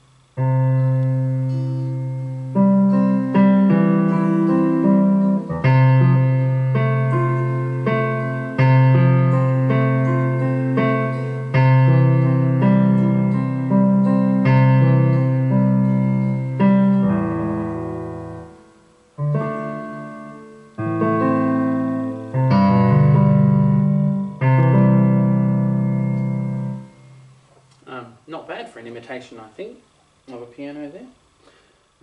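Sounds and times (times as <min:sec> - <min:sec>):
slow piano chords: 0:00.0 - 0:27.8.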